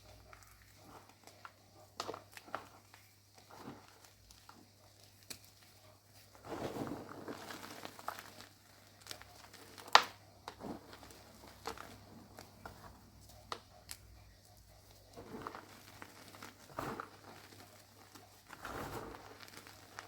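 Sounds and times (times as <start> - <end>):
chalk crunching and crumbling: 0.0 - 20.0.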